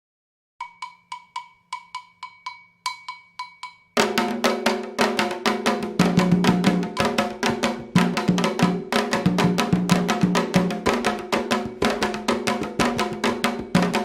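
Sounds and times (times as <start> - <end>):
drums and percussion: 0.6 - 14.0.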